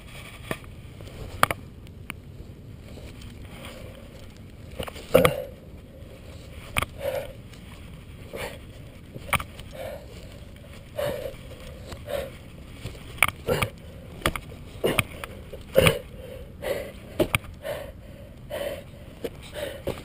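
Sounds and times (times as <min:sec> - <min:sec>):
rough breathing puffs: 0:02.8 - 0:20.0.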